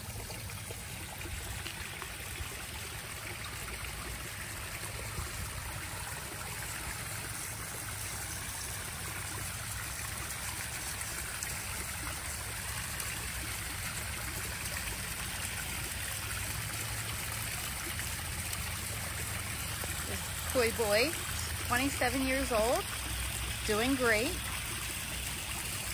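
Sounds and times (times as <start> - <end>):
water splashing and trickling: 0.0 - 25.9.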